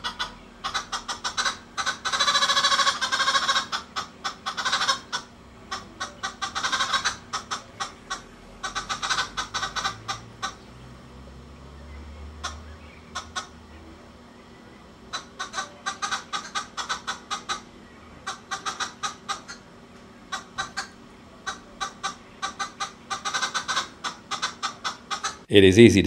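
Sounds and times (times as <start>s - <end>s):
birds cackling: 0.0s - 25.5s.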